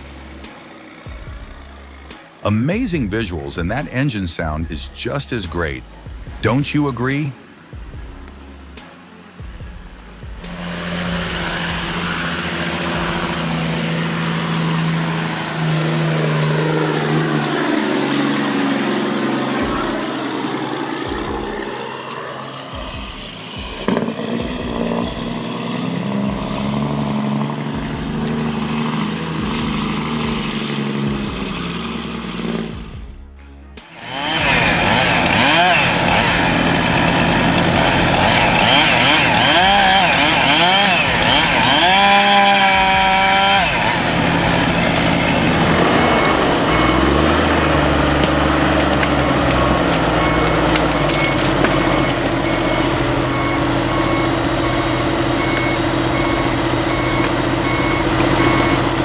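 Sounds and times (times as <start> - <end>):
truck diesel engine with whine: 0.0 - 59.0
chainsaw cutting wood: 4.6 - 33.0, 33.8 - 59.0.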